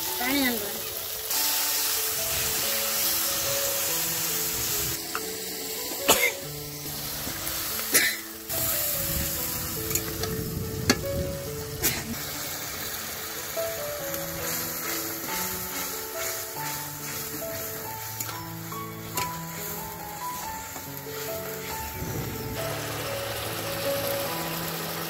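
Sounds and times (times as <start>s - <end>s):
food sizzling in hot oil: 0.0s - 25.0s
soft background music: 0.0s - 25.0s.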